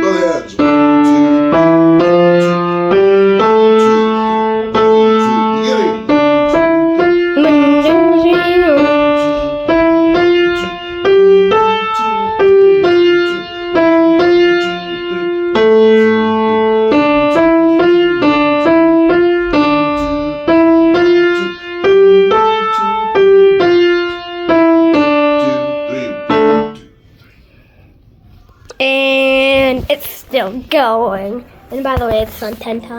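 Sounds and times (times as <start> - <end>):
piano melody: 0.0 - 27.1.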